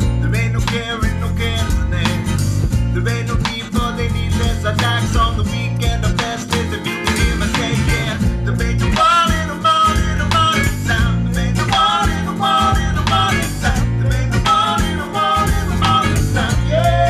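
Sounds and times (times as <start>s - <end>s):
guitar-led song: 0.0s - 17.0s.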